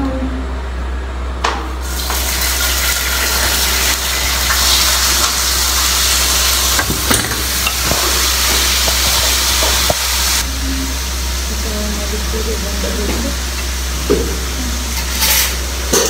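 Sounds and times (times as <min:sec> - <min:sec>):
low steady hum: 0:00.0 - 0:16.0
loud steady hiss: 0:01.8 - 0:16.0.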